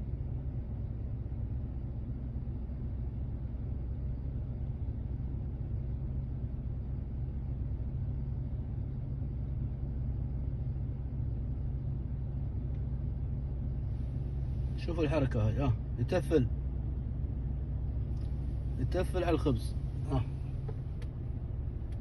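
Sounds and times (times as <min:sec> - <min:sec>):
outdoor street rumble: 0:00.0 - 0:22.0.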